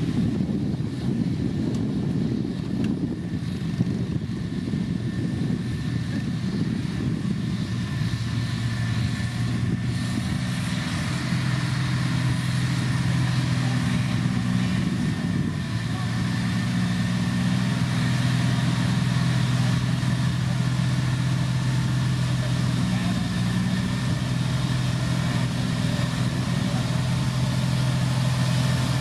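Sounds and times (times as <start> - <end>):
diesel engine droning under load: 0.0 - 29.0.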